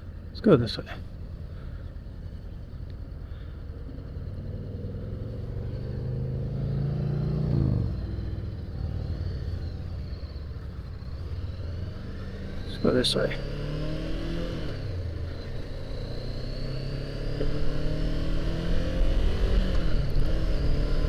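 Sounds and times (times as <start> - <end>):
wind and road rumble: 0.0 - 21.0
motorcycle engine accelerating: 2.4 - 21.0.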